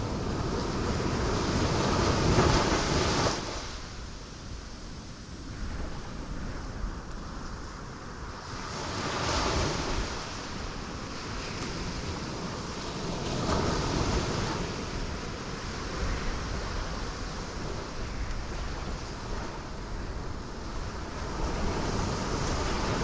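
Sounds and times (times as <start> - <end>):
waves crashing on rocks: 0.0 - 4.4, 8.0 - 23.0
steady roar of surf: 0.0 - 23.0.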